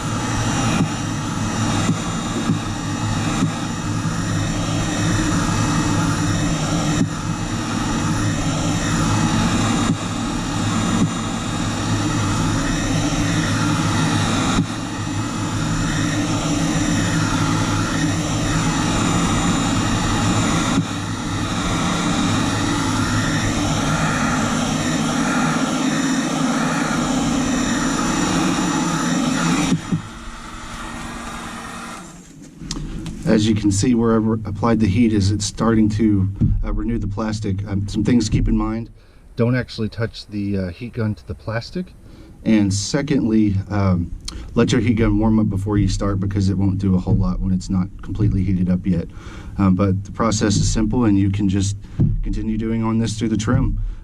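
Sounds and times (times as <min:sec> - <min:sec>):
heat gun blowing with a hum: 0:00.0 - 0:54.0.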